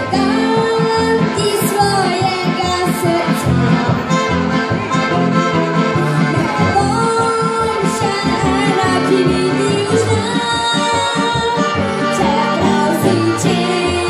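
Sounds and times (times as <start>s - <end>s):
accordion: 0.0s - 14.0s
live folk-pop band playing: 0.0s - 14.0s.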